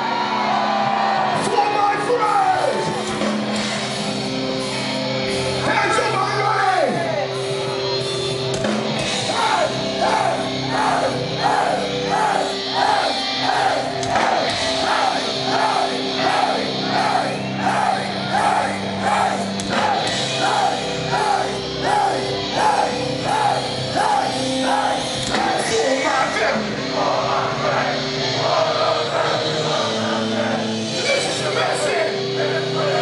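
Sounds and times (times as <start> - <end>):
punk band playing: 0.0 - 33.0.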